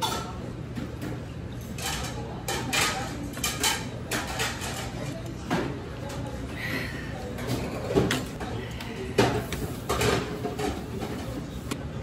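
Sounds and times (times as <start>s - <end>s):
dishes and cutlery clinking: 0.0s - 6.3s, 7.4s - 11.6s.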